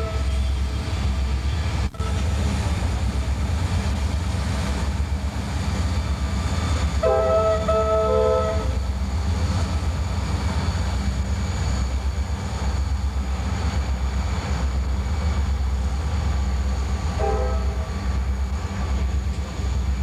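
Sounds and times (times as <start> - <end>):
diesel locomotive rumble: 0.0 - 20.0.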